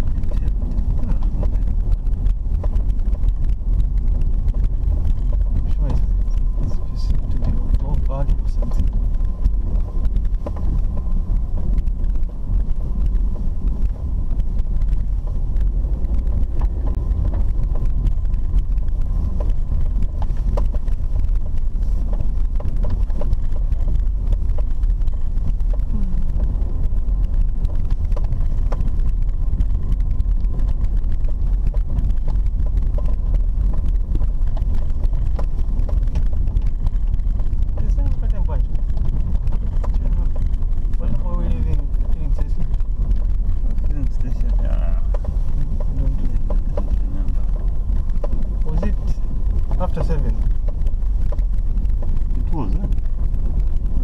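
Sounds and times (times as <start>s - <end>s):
engine and tyres rumbling: 0.0s - 54.0s
small knocks and rattles: 0.0s - 54.0s.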